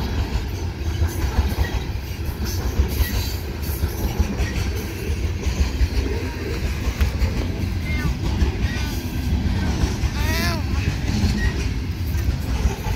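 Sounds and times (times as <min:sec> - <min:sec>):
train wheels rumbling on rails: 0:00.0 - 0:12.9
wheels clacking over rail joints: 0:00.0 - 0:12.9.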